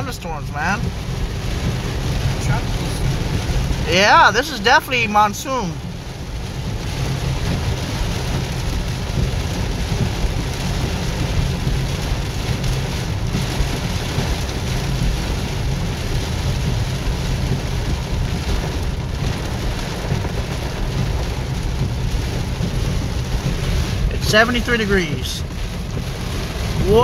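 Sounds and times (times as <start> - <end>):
heavy rain on a car roof: 0.0 - 27.0
low rumble: 0.0 - 27.0.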